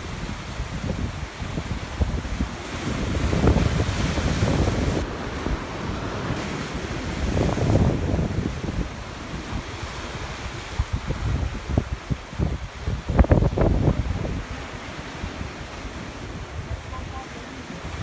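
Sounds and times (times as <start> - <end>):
surf breaking over rocks: 0.0 - 18.0
wind buffeting microphone: 0.0 - 18.0.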